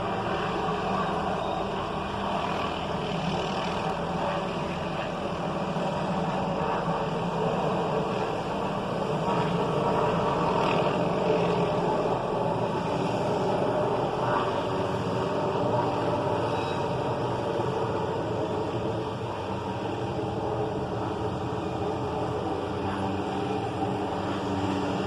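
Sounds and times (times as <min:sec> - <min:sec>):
helicopter engine and rotor drone: 0:00.0 - 0:25.0.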